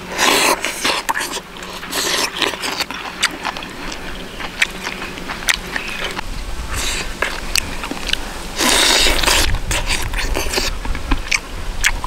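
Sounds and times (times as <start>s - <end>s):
crunchy chewing: 0.0s - 12.0s
biting into food: 0.1s - 12.0s
mouth clicks: 0.2s - 12.0s.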